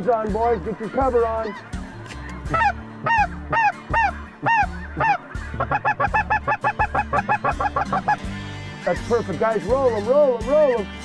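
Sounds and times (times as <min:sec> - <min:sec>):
geese honking: 0:00.1 - 0:10.8.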